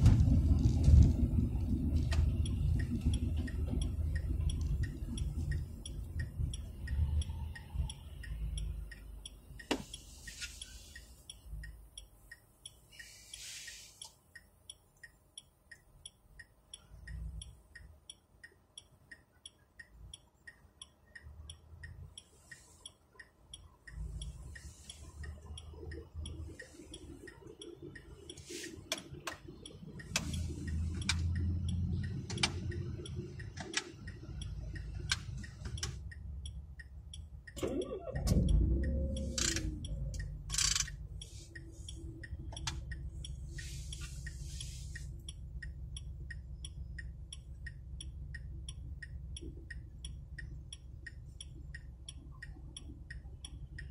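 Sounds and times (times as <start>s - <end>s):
engine and road rumble: 0.0s - 53.9s
car indicator ticking: 0.3s - 53.9s.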